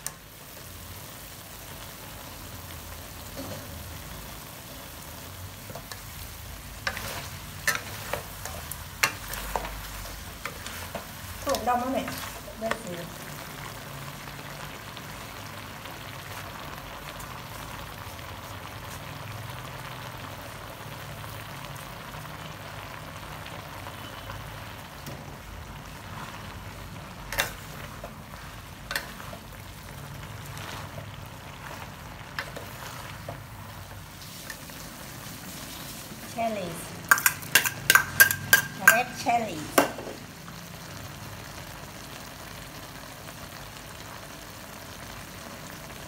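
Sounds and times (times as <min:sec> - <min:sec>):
chicken sizzling in wok: 0:00.0 - 0:46.0.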